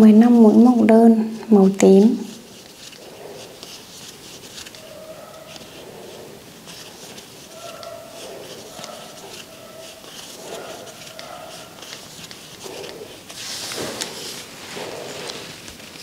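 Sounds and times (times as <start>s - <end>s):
crochet hook rubbing yarn: 1.6s - 16.0s.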